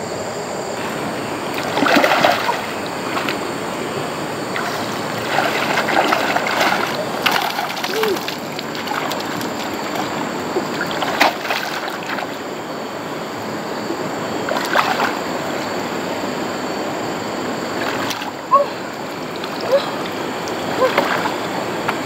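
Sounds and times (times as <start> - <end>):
water splashes: 0.8 - 16.1, 17.5 - 22.0
water rushing: 0.8 - 22.0.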